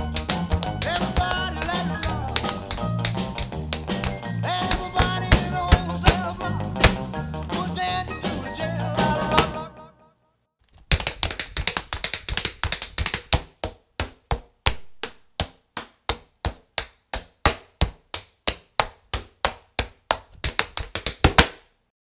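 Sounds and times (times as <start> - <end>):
tap shoes on wooden board: 0.0 - 7.1, 10.8 - 21.6.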